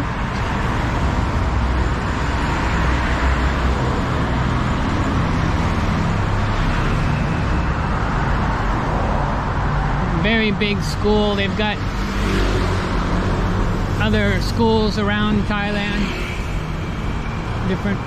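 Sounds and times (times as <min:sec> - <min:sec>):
motorbikes passing: 0:00.0 - 0:18.0
road traffic: 0:00.0 - 0:18.0.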